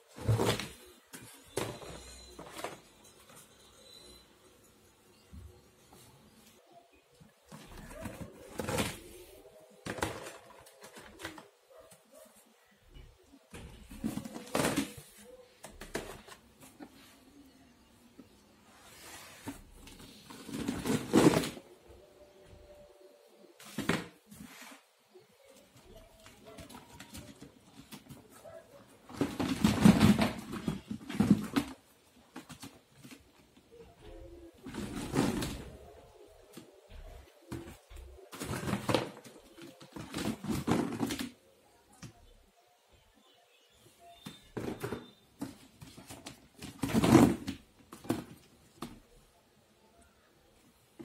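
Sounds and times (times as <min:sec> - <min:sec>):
baskets and paper rustling: 0:00.0 - 0:04.2, 0:05.3 - 0:42.4, 0:43.8 - 0:49.3.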